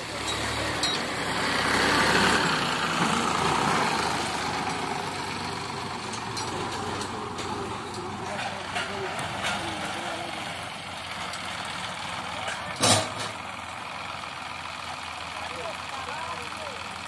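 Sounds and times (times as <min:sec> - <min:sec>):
tractor diesel engine: 0:00.0 - 0:17.0.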